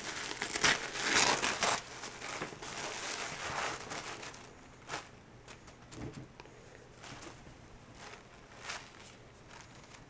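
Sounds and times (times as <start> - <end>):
tissue paper rustling: 0.0 - 5.6, 7.0 - 10.0.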